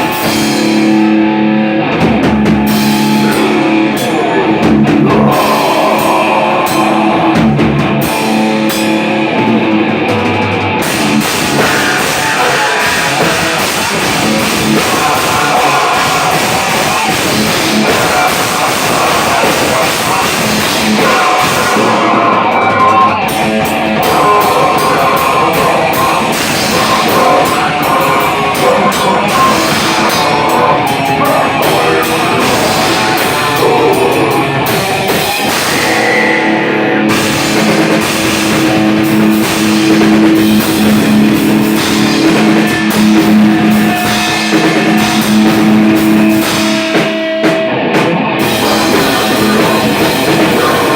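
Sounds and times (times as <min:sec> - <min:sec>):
live rock band playing: 0:00.0 - 0:50.9.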